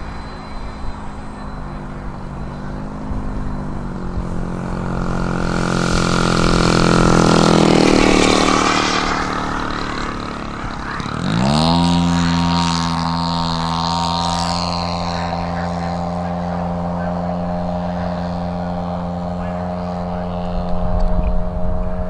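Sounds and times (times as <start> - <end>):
model plane engine revving: 0.0 - 22.0.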